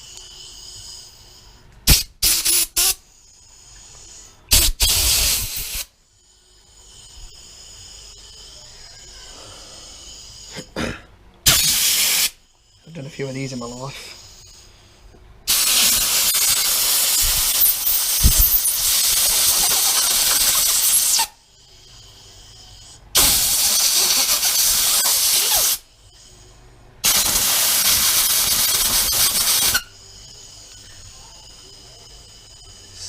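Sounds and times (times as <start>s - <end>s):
compressed air hissing blasts: 0.0s - 8.5s, 11.4s - 21.4s, 22.2s - 26.2s, 27.0s - 33.0s.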